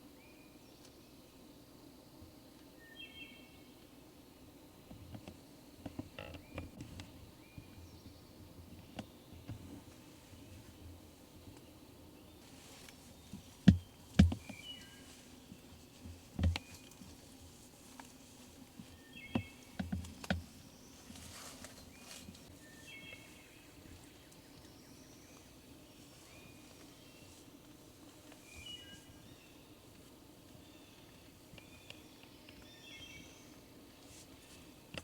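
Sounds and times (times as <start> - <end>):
small birds chirping: 4.9 - 35.0.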